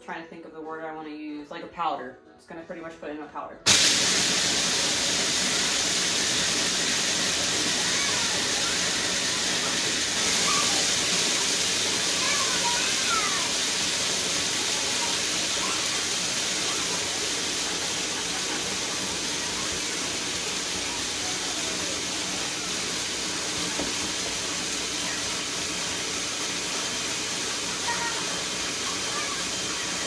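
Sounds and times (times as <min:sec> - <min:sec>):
food processor grinding: 0:03.7 - 0:30.0.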